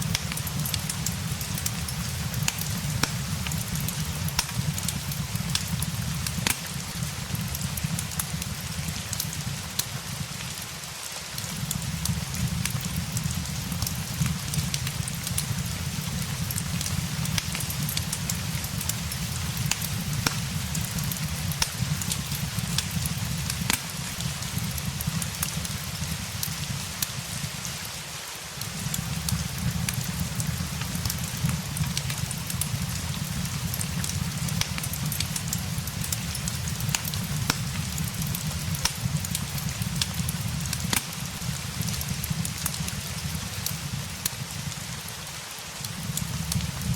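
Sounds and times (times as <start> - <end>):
fireplace pops and crackles: 0.0 - 27.8, 28.6 - 45.2, 45.8 - 46.9
steady rain: 0.0 - 46.9.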